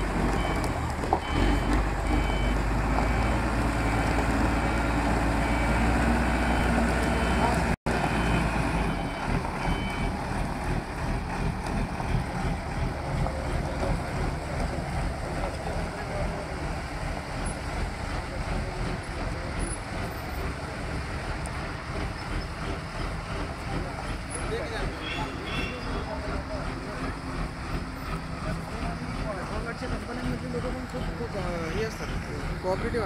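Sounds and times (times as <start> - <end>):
forklift diesel engine running: 0.0 - 33.0.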